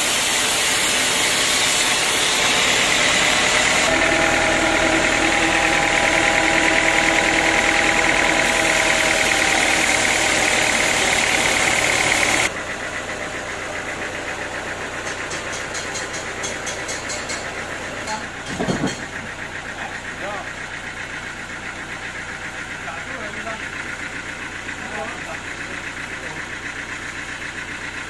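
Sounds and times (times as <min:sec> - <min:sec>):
sawmill engine running: 0:00.0 - 0:28.0.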